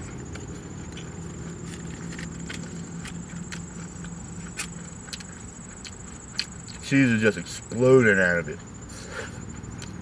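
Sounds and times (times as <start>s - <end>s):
chewing food: 0.0s - 7.6s, 9.4s - 10.0s
steady low hum: 0.0s - 10.0s.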